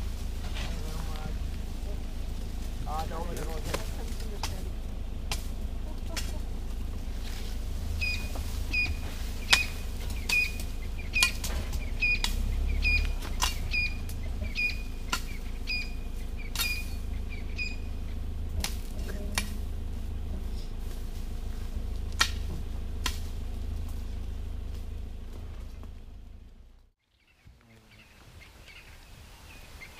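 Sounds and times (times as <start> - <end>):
branches snapping against vehicle: 0.0 - 26.9
vehicle engine rumble: 0.0 - 29.9.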